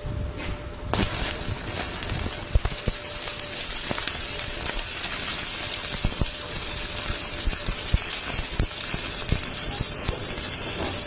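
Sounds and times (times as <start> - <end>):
arc welding crackling hiss: 0.9 - 11.0.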